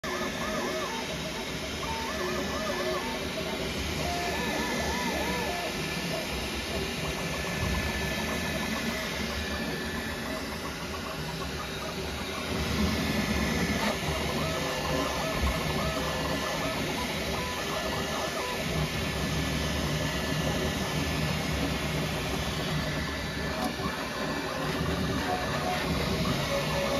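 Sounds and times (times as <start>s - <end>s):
printer stepper motors whirring: 0.0s - 26.9s.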